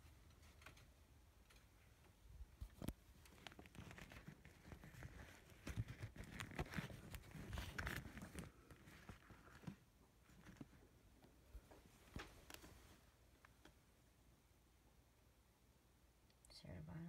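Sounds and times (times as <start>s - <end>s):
camera rustling against clothing: 0.0s - 13.8s.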